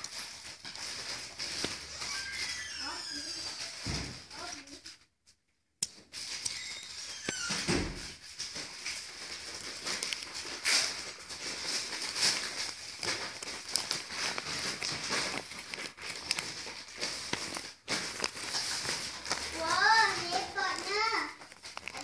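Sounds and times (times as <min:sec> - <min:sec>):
paper and plastic wrapper crinkling: 0:00.0 - 0:05.1, 0:05.9 - 0:22.0.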